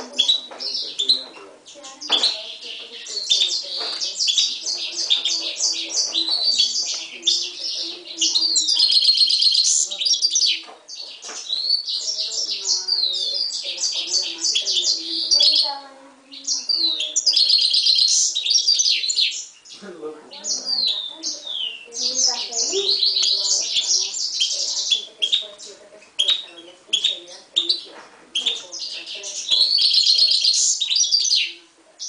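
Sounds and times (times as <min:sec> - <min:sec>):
bird singing twitters and trills: 0:00.0 - 0:32.0.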